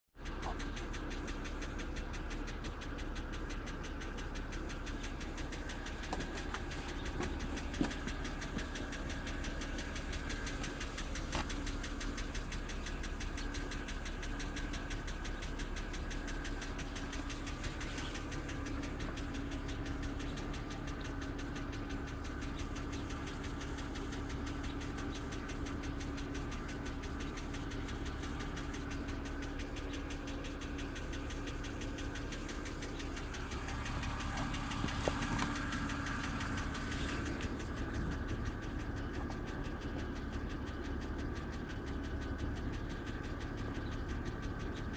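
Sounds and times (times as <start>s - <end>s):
engine idling with rapid knocking: 0.1s - 44.9s
sharp engine clicks: 0.1s - 44.9s.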